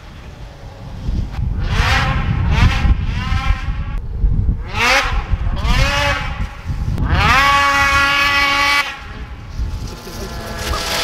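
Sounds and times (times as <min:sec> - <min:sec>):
snowmobile engine revving: 0:01.6 - 0:04.0, 0:04.6 - 0:11.0.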